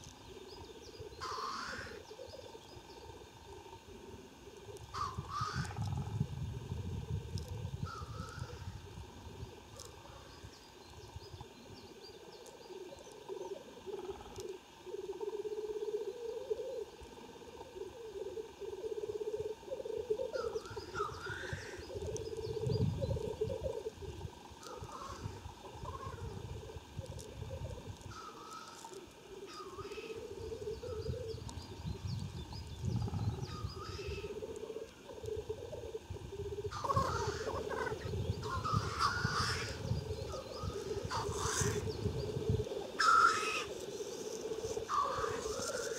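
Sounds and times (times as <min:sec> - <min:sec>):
grouse bubbling cooing song: 0:00.0 - 0:45.9.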